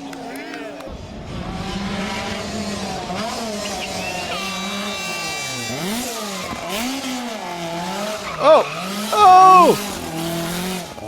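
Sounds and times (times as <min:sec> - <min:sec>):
rally car engine revving: 0:00.4 - 0:11.0.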